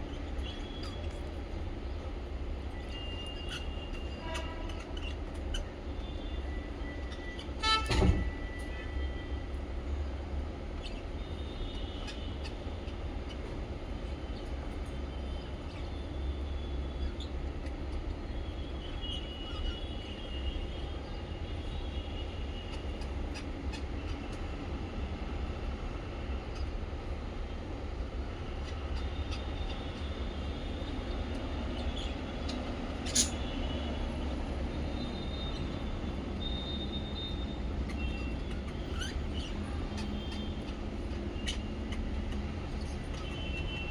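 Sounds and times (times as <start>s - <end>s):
parrots chirping: 0.0s - 2.0s, 2.6s - 7.6s, 10.8s - 25.2s, 26.4s - 27.6s, 28.5s - 33.8s, 34.9s - 43.9s.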